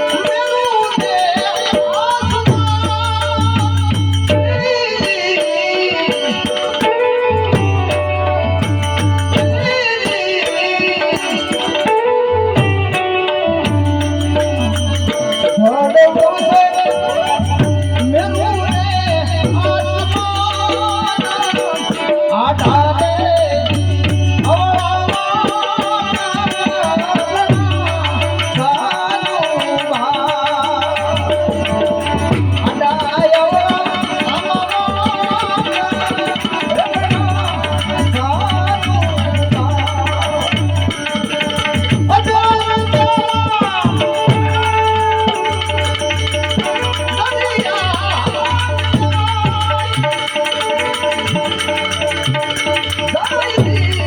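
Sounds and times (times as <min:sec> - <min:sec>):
jingling hand percussion: 0:00.0 - 0:54.0
person singing devotional song: 0:00.0 - 0:54.0
tabla: 0:00.0 - 0:54.0.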